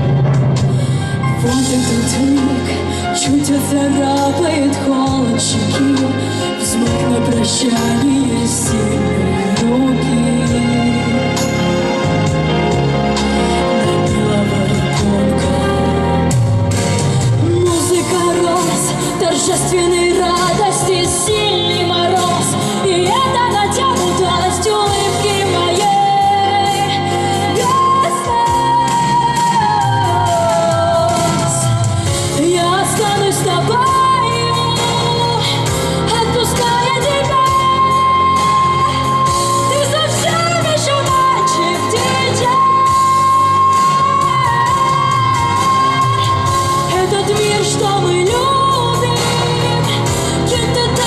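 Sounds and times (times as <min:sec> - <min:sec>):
sustained instrumental accompaniment: 0:00.0 - 0:51.0
person singing with vibrato: 0:00.6 - 0:12.2, 0:13.2 - 0:51.0.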